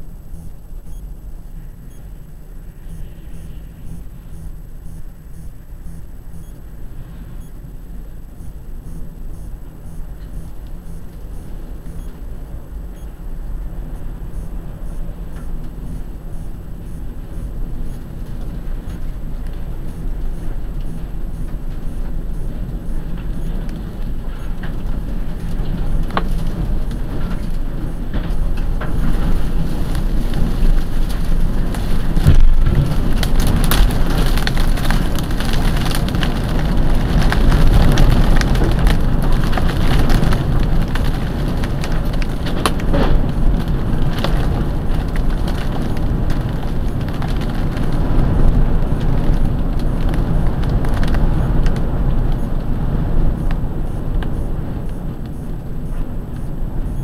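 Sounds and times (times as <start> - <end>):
storm wind buffeting a car: 2.1 - 57.0
rain and debris pelting a car: 2.6 - 57.0.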